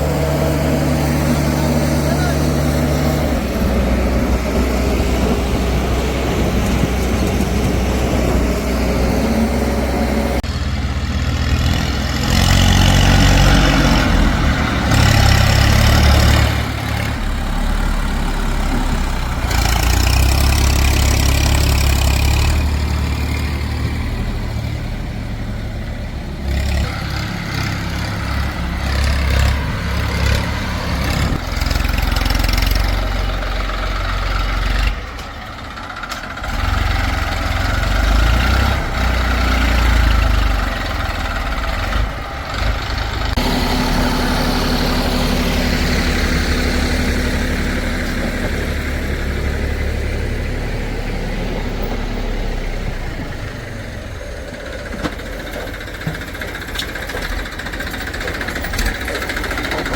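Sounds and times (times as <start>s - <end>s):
heavy diesel engines revving: 0.0s - 59.9s.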